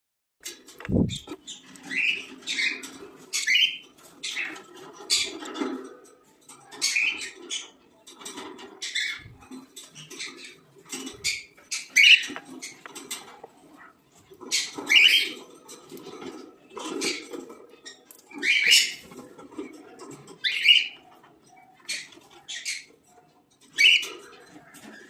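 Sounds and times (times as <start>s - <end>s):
small birds chirping and squawking: 0.4s - 25.0s.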